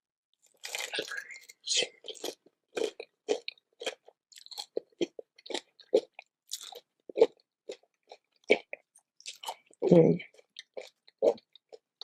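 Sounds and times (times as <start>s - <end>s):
crunchy chewing of food: 0.4s - 12.0s.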